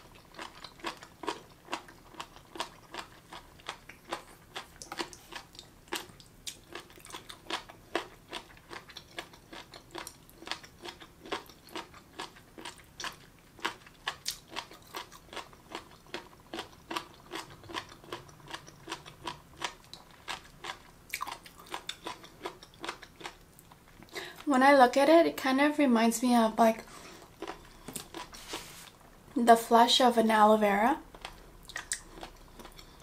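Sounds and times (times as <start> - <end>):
crisp chewing crunches: 0.0 - 24.2, 27.2 - 28.7, 31.1 - 33.0.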